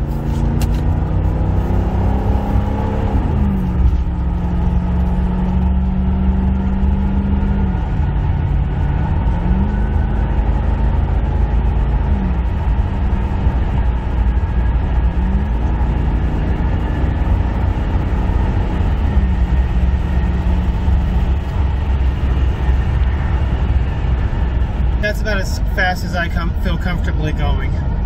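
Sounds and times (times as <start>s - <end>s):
car engine pulling hard: 0.0s - 28.0s
road and wind noise: 0.0s - 28.0s.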